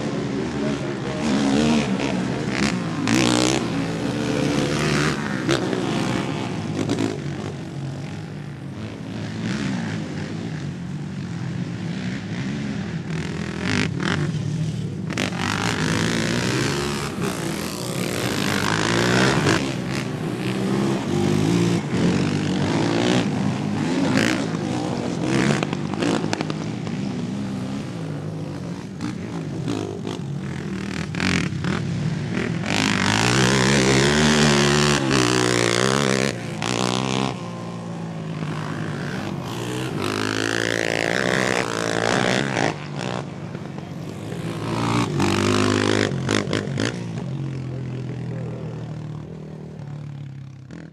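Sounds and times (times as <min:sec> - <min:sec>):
quad engines revving and shifting: 0:00.0 - 0:50.9.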